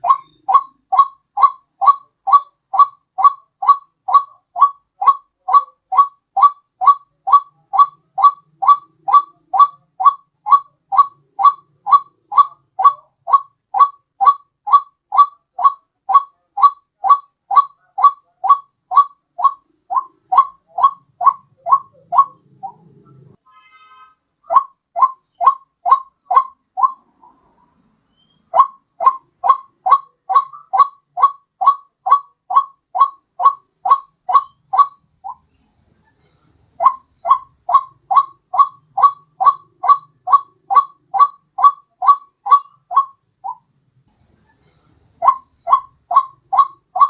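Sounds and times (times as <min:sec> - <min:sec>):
waterhen call: 0:00.0 - 0:22.9, 0:23.6 - 0:35.4, 0:36.8 - 0:43.6, 0:45.2 - 0:47.0.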